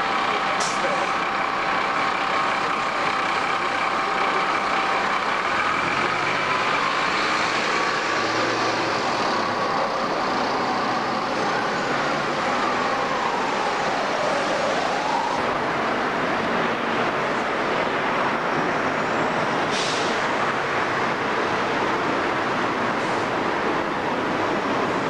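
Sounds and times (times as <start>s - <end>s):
bus engine hum: 0.0s - 25.0s
bus pulling away: 0.0s - 25.0s
street traffic noise: 0.0s - 25.0s.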